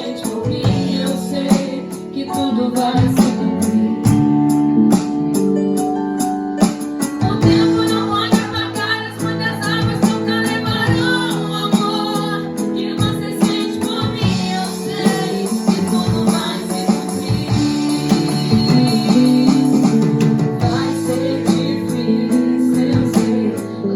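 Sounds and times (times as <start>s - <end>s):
drum and cymbal hits: 0.0s - 2.2s, 6.6s - 23.7s
worship band playing slow song: 0.0s - 23.9s.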